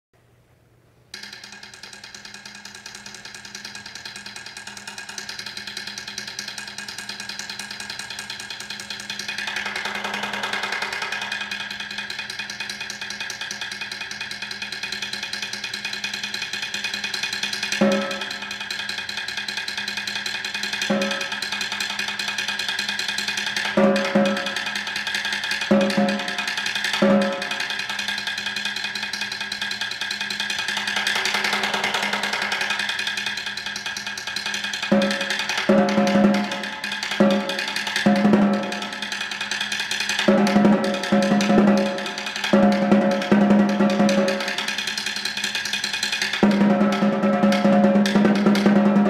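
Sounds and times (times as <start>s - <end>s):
accented snare strokes: 1.1s - 49.0s
snare drum roll: 1.2s - 49.0s.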